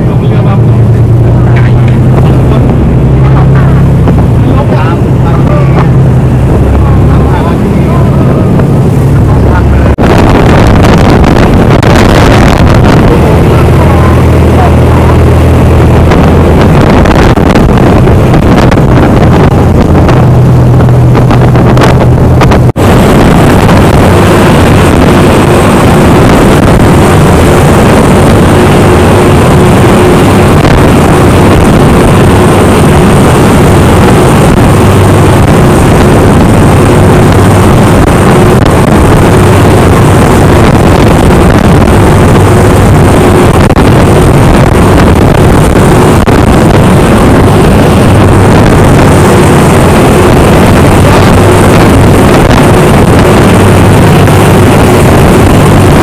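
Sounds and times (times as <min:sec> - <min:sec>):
boat engine running: 0:00.0 - 0:56.0
wind rushing across microphone: 0:00.0 - 0:56.0.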